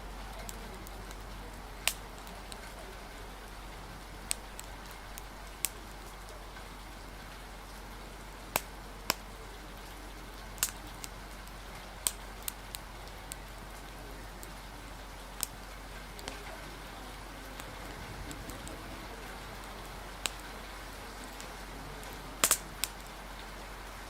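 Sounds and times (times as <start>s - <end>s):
steady rain: 0.0s - 24.0s
wood fire crackling and popping: 0.0s - 24.0s.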